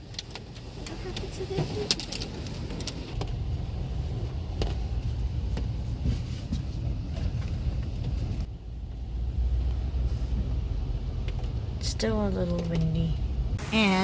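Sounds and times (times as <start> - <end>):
car rumble inside cabin: 0.0 - 13.6.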